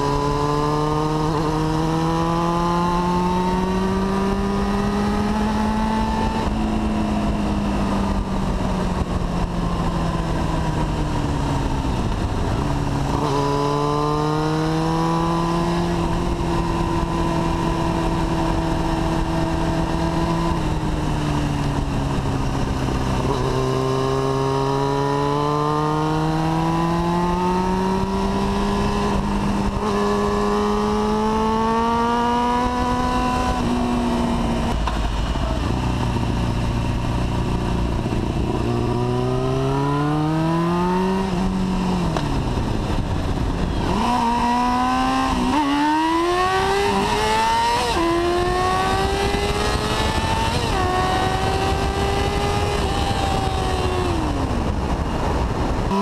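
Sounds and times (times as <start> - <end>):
motorcycle engine revving: 0.0 - 56.0
wind on microphone: 0.0 - 56.0.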